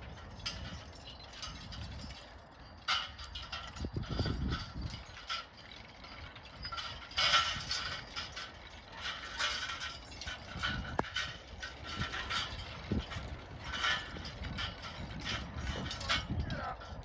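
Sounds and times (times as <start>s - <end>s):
harness rattling and clinking: 0.0s - 17.0s.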